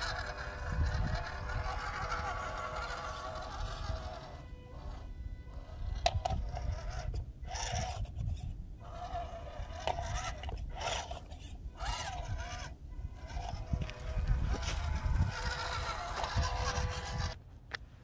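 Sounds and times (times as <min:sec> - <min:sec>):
toy truck motor and gears whining: 0:00.0 - 0:17.4.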